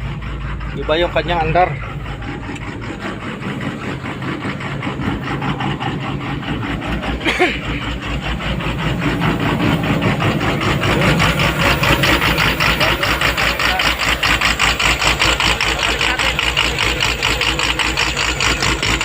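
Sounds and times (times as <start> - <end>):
diesel engine running unevenly: 0.0 - 19.0.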